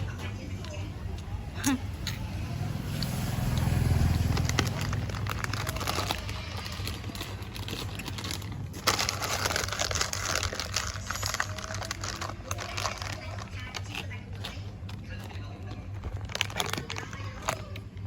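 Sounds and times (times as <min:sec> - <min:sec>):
irregular crackling and rustling: 0:02.2 - 0:18.0.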